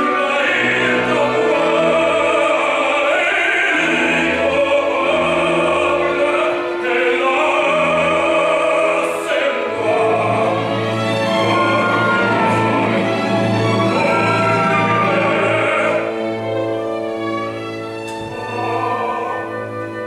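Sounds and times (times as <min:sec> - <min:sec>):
baritone singing opera: 0:00.0 - 0:16.6, 0:18.3 - 0:20.0
orchestra playing: 0:00.0 - 0:20.0.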